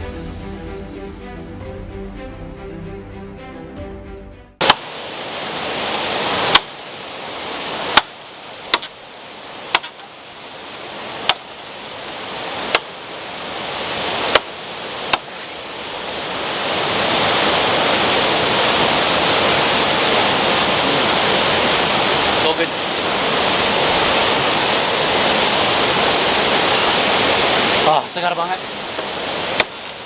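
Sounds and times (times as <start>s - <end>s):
rushing water: 4.6s - 30.0s.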